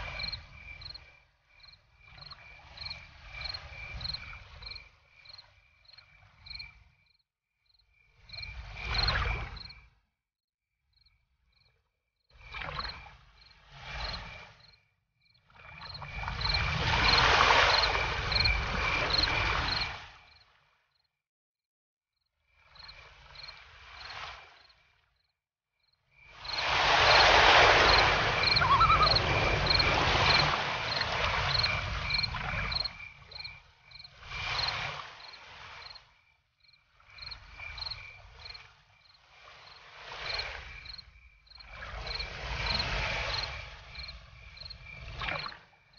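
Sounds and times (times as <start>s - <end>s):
crickets chirping: 0.0s - 10.0s, 10.9s - 11.8s, 12.4s - 21.1s, 22.4s - 45.9s.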